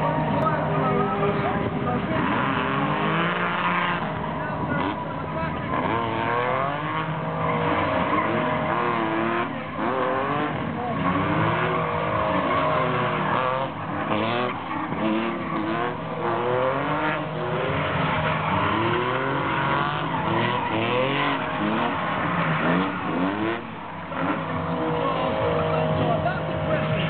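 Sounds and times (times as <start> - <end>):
sports car engines revving: 0.0 - 27.0
tyres squealing on tarmac: 2.1 - 27.0.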